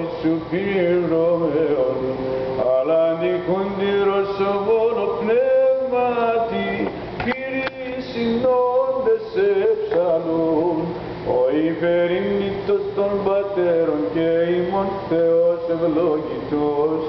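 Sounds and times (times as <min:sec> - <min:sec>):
low held vocal drone: 0:00.0 - 0:17.0.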